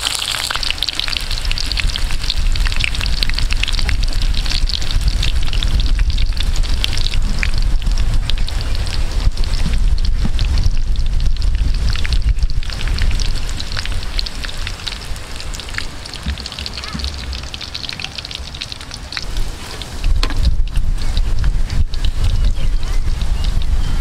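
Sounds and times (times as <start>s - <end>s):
oil sizzling in a wok: 0.0s - 24.0s
low rumble: 1.1s - 16.5s, 17.1s - 24.0s.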